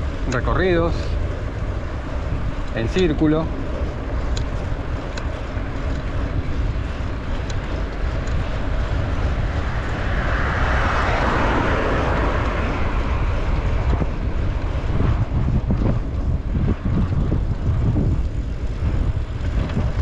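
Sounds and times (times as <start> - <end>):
bicycle tyres rumbling on asphalt: 0.0 - 20.0
broad rushing noise: 0.0 - 20.0
wind buffeting microphone: 0.0 - 20.0.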